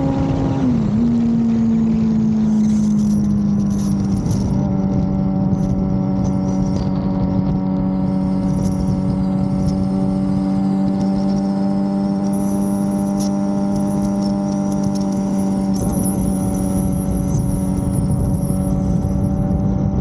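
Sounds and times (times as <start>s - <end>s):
motorcycle engine cruising: 0.0s - 20.0s
wind rumble on microphone: 0.0s - 20.0s.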